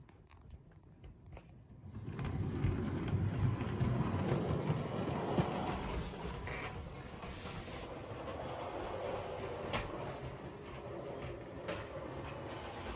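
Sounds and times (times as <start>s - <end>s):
clicks of wheels on track: 1.0s - 12.9s
model train running on track: 1.9s - 12.9s.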